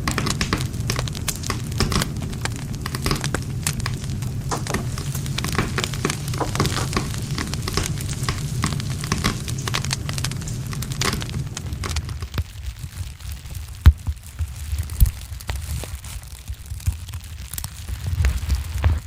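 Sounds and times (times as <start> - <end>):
fire pops and crackles: 0.0 - 19.0
low rumble of flames: 0.0 - 19.0.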